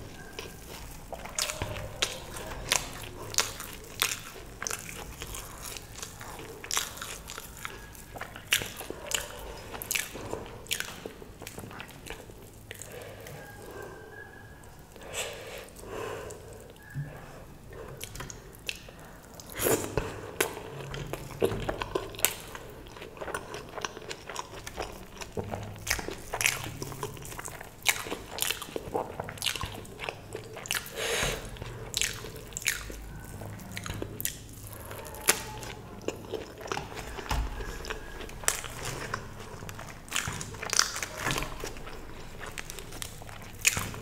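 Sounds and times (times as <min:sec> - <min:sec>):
person chewing crisp food: 0:00.0 - 0:44.0.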